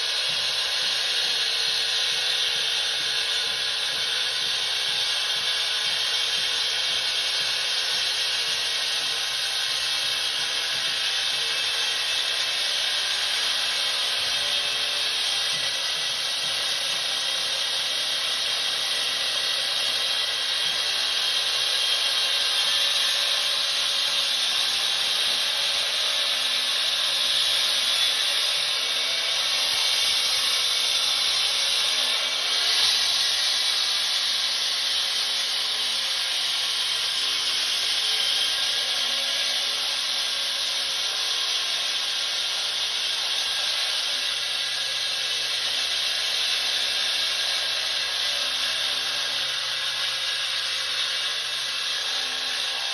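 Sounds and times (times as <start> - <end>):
concrete saw running: 0.0 - 52.9.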